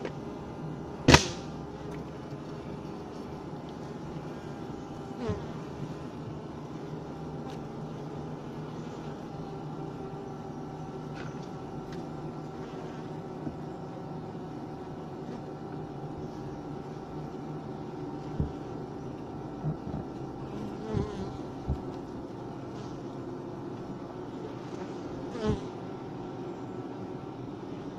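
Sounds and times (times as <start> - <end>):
bees buzzing in hive: 0.0 - 27.9.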